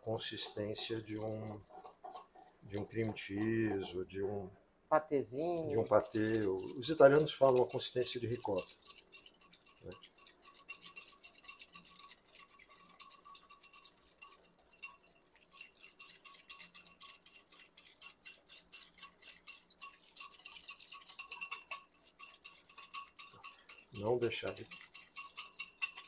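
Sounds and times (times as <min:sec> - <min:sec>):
whisk clinking in ceramic bowl: 0:00.0 - 0:04.2, 0:05.4 - 0:26.0.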